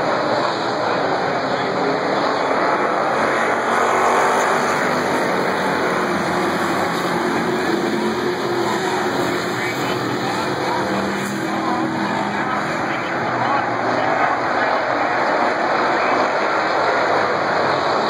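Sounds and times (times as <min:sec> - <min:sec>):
race car engines roaring: 0:00.0 - 0:18.0.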